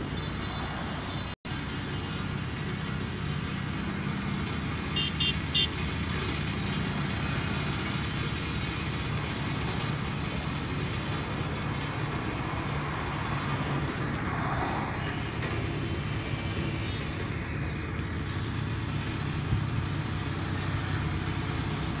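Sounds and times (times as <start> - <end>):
excavator diesel engine idling: 0.0 - 22.0.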